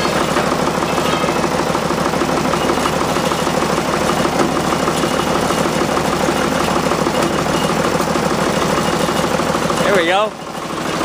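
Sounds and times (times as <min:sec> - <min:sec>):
loader engine running: 0:00.0 - 0:11.0.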